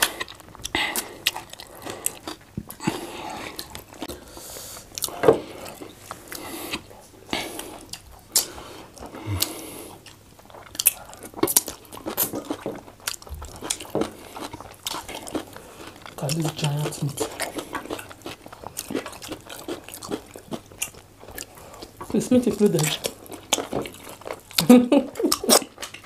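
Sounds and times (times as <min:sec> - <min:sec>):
chewing and biting: 0:00.0 - 0:26.0.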